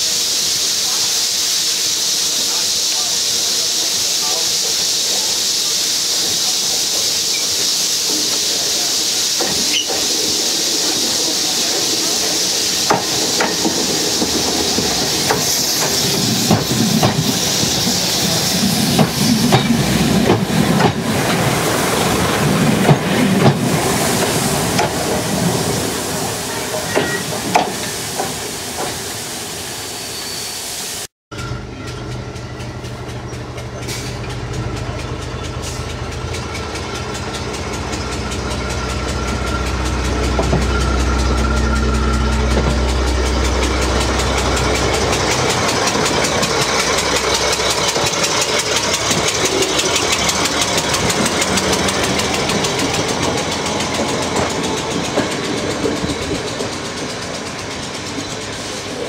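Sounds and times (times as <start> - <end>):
passing train rumble: 0.0 - 59.0
train running on track: 0.0 - 59.0.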